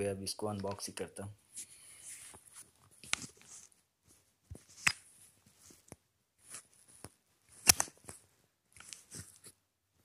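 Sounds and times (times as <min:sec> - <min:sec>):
handling rustles: 0:01.5 - 0:09.6.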